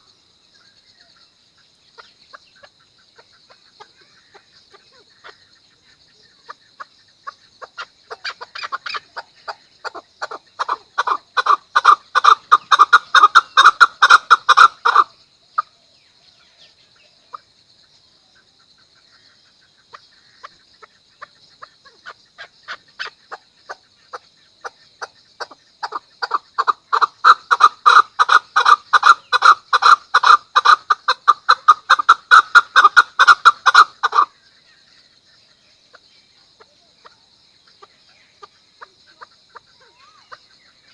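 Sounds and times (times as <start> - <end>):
partridge rapid clucking call: 1.6 - 15.8, 16.5 - 40.9.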